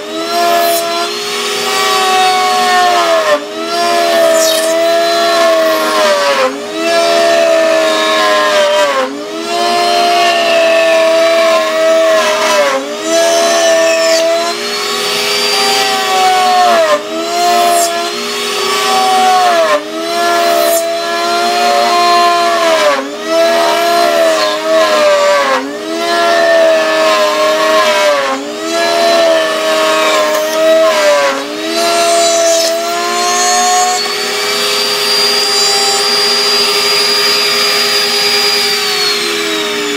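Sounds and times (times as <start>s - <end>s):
router whining while cutting wood: 0.0s - 39.9s.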